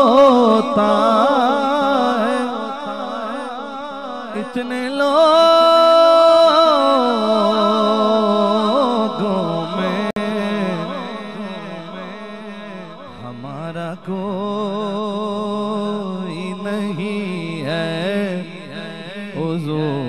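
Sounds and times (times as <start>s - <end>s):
man singing through a microphone: 0.0s - 20.0s.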